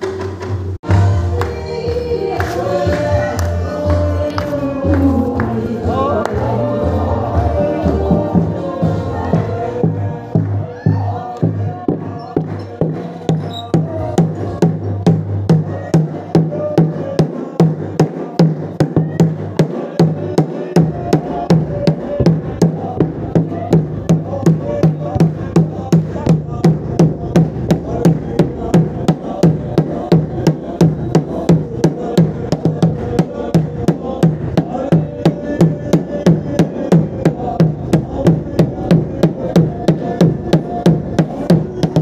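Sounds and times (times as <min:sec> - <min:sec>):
voices singing: 0:01.0 - 0:42.0
driving percussive beat: 0:05.4 - 0:42.0.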